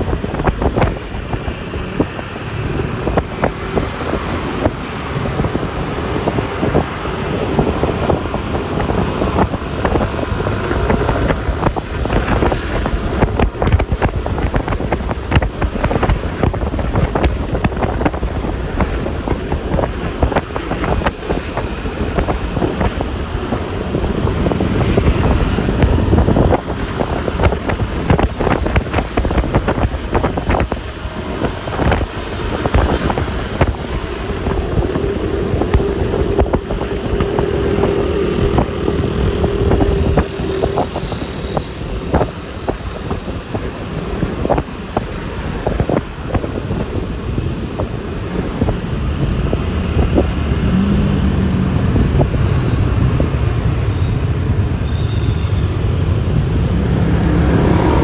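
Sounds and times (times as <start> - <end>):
road and traffic noise: 0.0 - 58.0
scooter engine: 0.0 - 58.0
wind buffeting microphone: 0.0 - 58.0.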